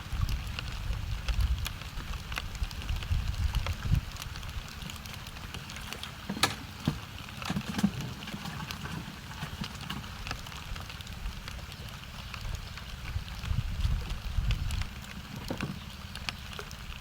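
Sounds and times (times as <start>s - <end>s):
low wind rumble on microphone: 0.0s - 6.2s, 7.2s - 17.0s
rain drops ticking: 0.0s - 17.0s.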